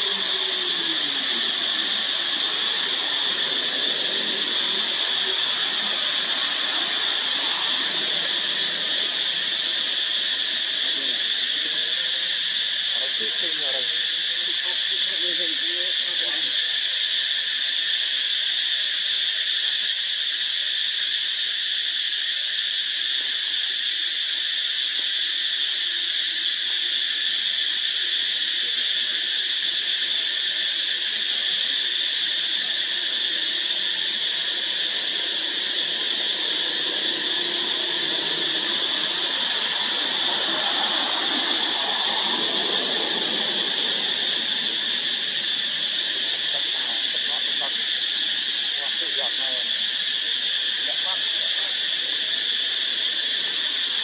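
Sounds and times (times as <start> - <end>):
insect chorus drone: 0.0 - 54.0.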